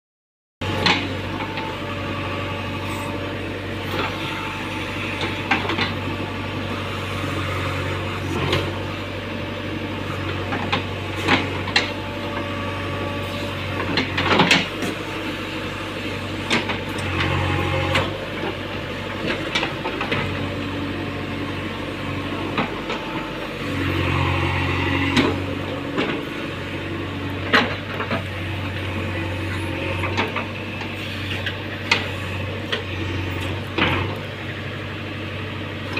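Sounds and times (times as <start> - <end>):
diesel engine under load: 0.6 - 35.9.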